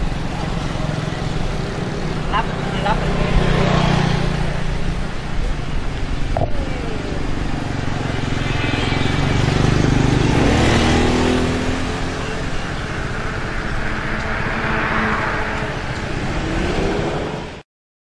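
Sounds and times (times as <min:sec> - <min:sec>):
cars driving past: 0:00.0 - 0:17.6
scooter engine passing: 0:00.0 - 0:17.6.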